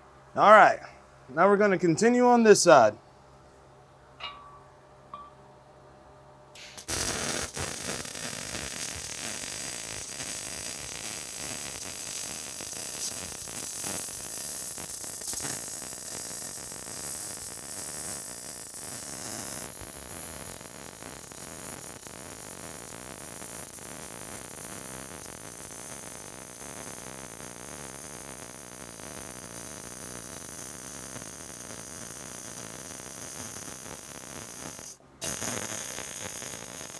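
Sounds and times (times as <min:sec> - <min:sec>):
welding arc crackling sizzle: 0:06.6 - 0:36.9.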